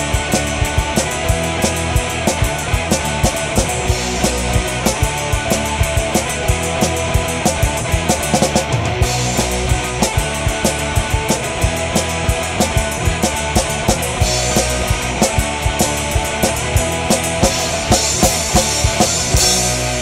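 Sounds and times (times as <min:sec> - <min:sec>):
music with fast drum beat: 0:00.0 - 0:20.0.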